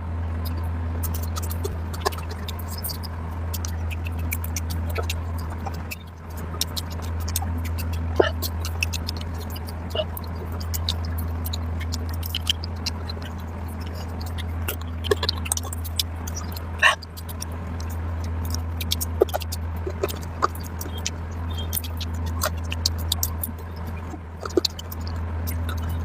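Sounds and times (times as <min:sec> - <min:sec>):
steady low hum: 0:00.0 - 0:26.0
wet chewing with mouth clicks: 0:00.3 - 0:26.0.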